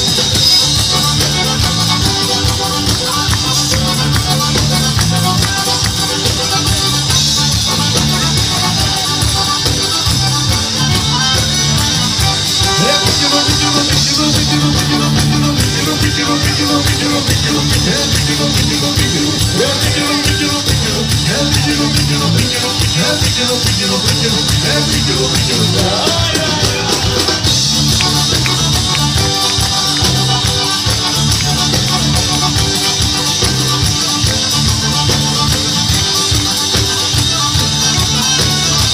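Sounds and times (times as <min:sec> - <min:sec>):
folk band playing dance music: 0:00.0 - 0:38.9.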